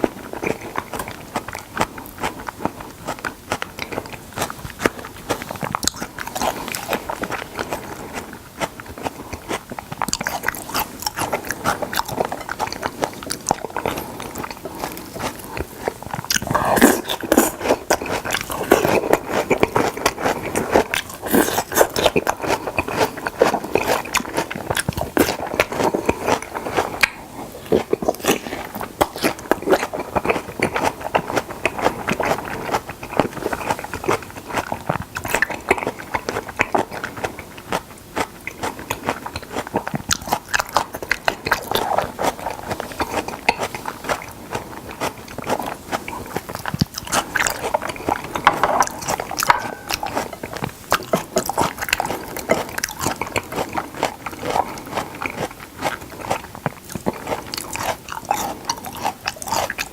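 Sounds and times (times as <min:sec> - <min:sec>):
close biting and chewing: 0:00.0 - 0:59.9.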